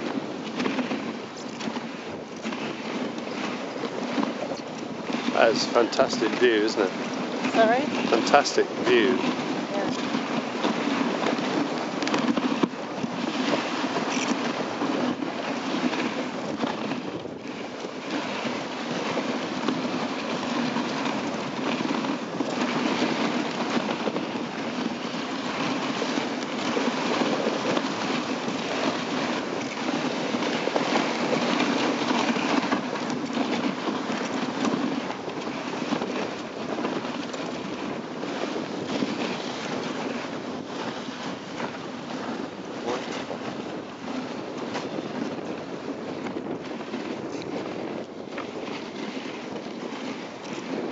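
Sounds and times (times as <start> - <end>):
sled runners scraping on snow: 0.0 - 50.9.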